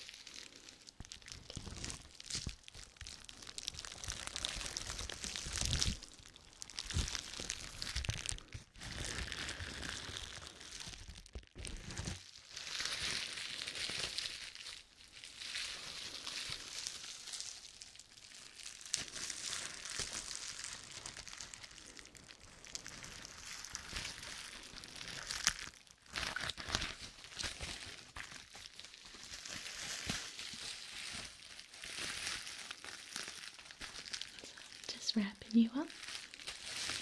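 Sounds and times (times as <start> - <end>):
bubble wrap crinkling: 0.0 - 37.0.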